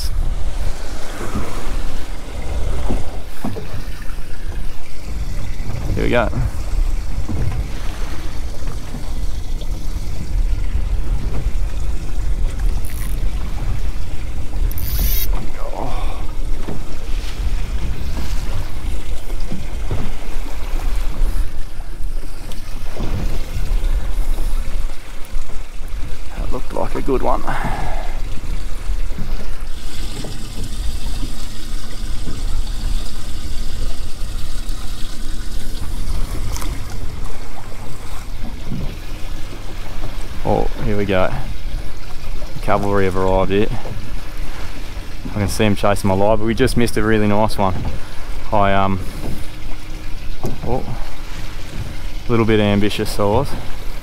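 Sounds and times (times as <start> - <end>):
steady low rumble: 0.0 - 49.1
outboard motor running: 0.0 - 54.0
water against hull: 0.0 - 54.0.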